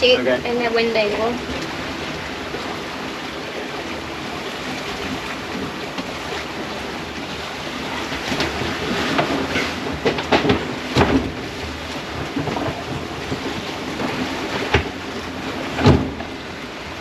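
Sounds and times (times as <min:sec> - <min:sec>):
water splashes: 0:00.0 - 0:17.0
wind and water rushing: 0:00.0 - 0:17.0.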